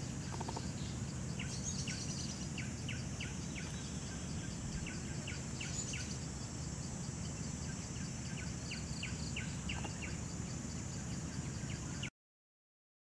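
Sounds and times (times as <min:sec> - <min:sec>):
high-pitched insect drone: 0:00.0 - 0:12.1.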